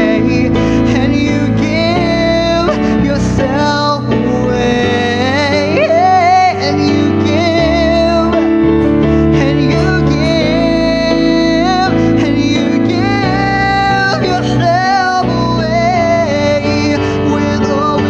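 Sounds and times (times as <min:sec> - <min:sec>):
man singing: 0:00.0 - 0:18.0
piano chords: 0:00.0 - 0:18.0.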